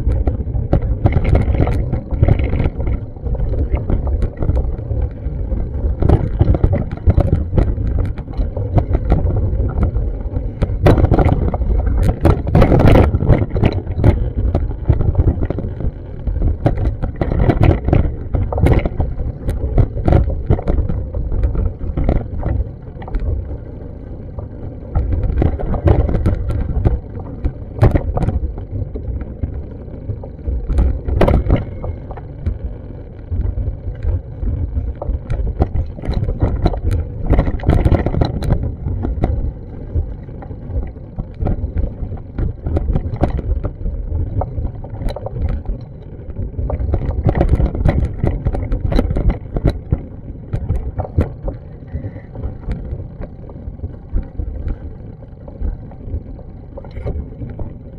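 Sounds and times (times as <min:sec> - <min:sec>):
sharp clicks and knocks: 0:00.0 - 0:23.6, 0:24.4 - 0:54.9
wind buffeting microphone: 0:00.0 - 0:57.9.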